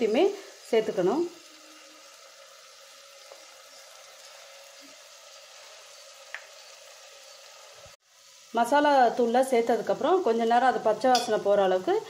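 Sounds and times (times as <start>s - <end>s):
faint sizzle of frying: 0.0s - 12.0s.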